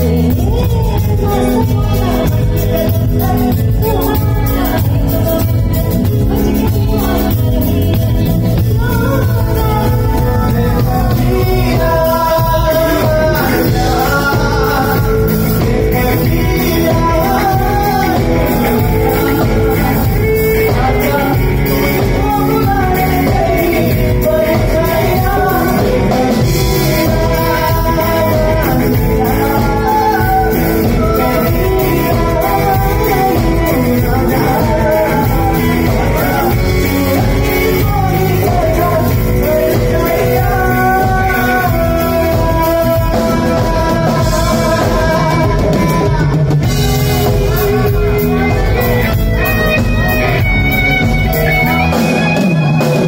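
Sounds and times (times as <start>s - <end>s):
men singing into microphones: 0.0s - 50.7s
live band playing: 0.0s - 53.0s.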